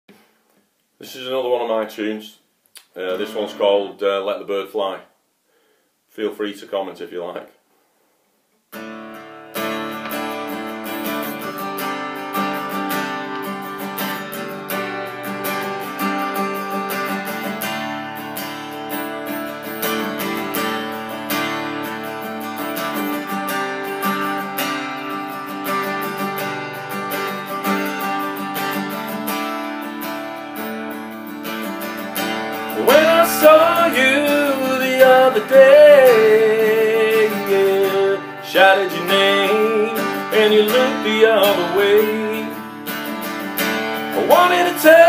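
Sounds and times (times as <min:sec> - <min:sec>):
acoustic guitar strumming: 0:08.7 - 0:45.0.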